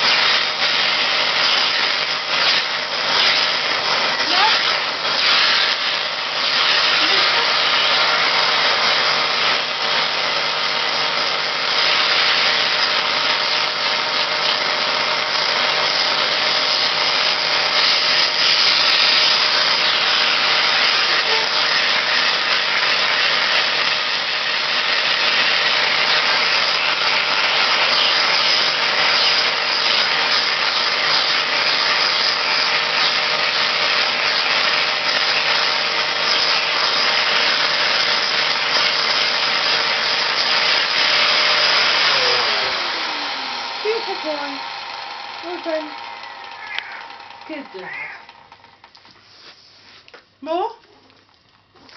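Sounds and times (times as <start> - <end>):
vacuum cleaner running: 0.0 - 50.6.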